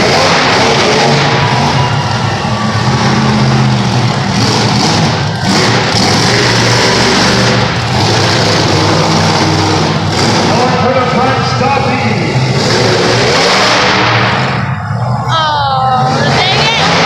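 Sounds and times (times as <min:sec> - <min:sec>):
monster truck engine revving loud: 0:00.0 - 0:17.0.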